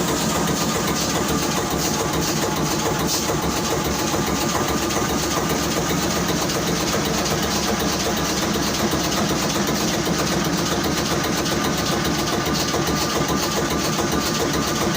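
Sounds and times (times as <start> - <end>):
marine diesel engine running: 0.0 - 14.9.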